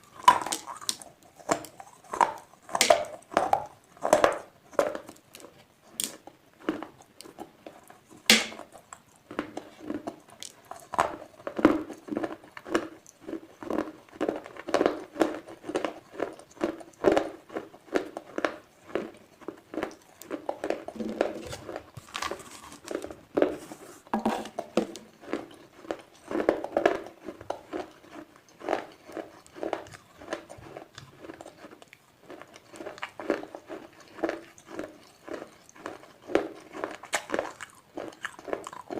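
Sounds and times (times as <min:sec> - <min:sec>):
person chewing slate pencils: 0:00.0 - 0:38.9.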